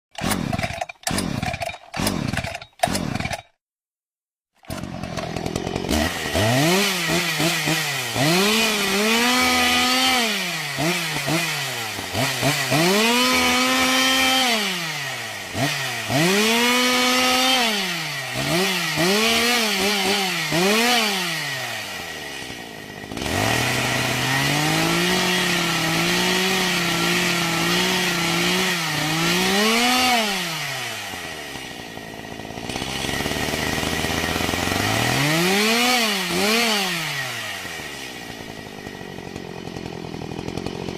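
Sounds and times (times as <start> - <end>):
chainsaw engine revving: 0.1 - 3.6, 4.6 - 40.9.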